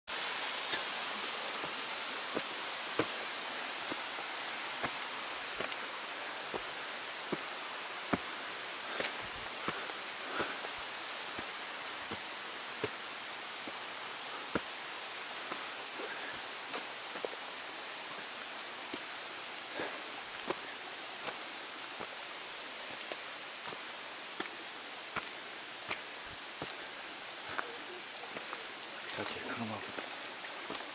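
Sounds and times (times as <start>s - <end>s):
steady hiss: 0.1s - 30.9s
footsteps on rocky trail: 0.7s - 30.9s.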